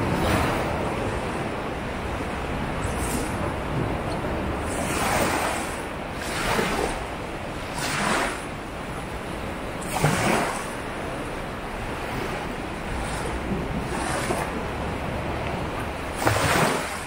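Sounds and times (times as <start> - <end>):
low rumble of the sea: 0.0 - 17.0
waves breaking on a beach: 0.0 - 17.0.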